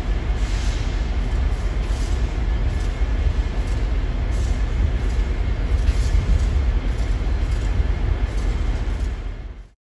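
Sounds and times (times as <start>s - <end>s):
diesel locomotive engine rumble: 0.0s - 9.7s.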